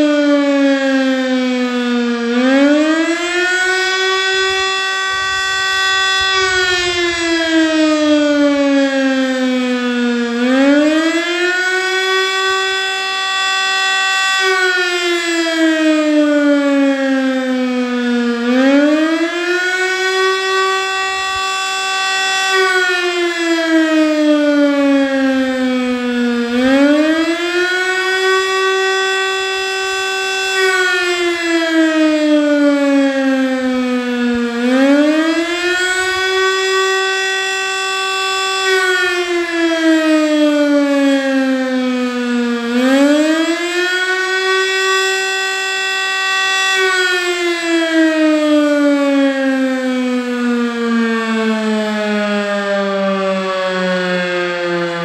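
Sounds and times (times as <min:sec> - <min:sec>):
siren rising and falling wail: 0:00.0 - 0:55.0.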